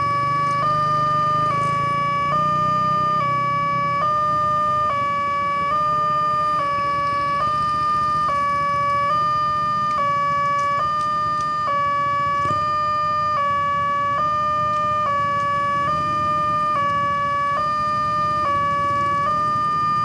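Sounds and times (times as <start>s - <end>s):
two-tone crossing alarm: 0.0s - 20.0s.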